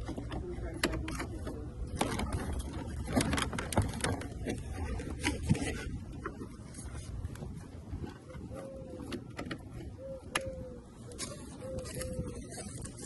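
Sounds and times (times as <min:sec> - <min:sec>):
clicks and knocks of handling: 0:00.0 - 0:13.0.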